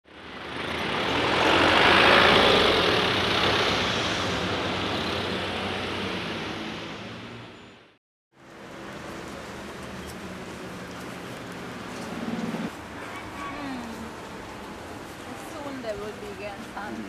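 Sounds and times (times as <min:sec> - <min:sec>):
motor vehicle passing: 0:00.2 - 0:17.0.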